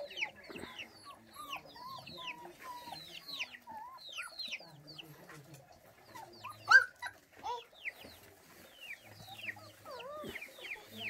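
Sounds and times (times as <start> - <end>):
animal peeping and whimpering: 0.0 - 5.1, 6.0 - 8.0, 8.9 - 11.0.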